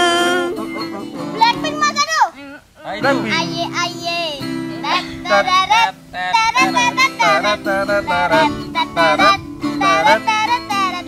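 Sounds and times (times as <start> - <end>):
high-pitched voice singing: 0.0 - 2.2, 2.8 - 11.0
strummed acoustic guitar: 0.0 - 11.0.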